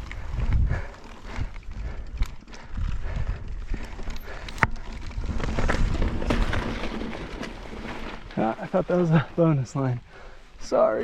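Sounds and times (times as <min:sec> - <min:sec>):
tyres rumbling on rock: 0:00.0 - 0:10.2
bike knocking and rattling: 0:00.0 - 0:10.3.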